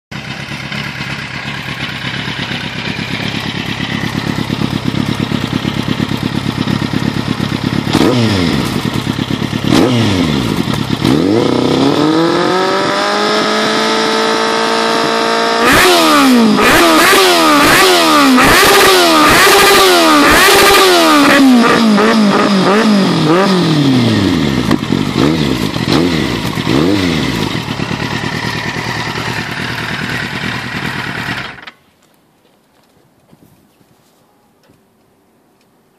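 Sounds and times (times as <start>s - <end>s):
motorcycle engine revving: 0.1s - 31.8s.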